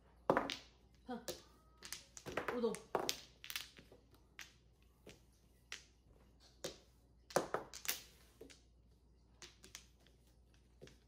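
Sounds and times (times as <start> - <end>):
mahjong tiles clacking: 0.2 - 11.0.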